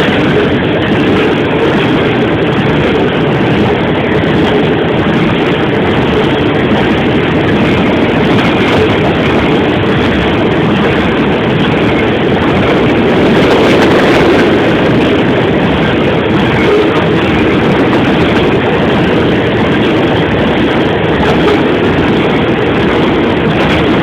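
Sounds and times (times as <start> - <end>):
train rolling past: 0.0 - 24.0.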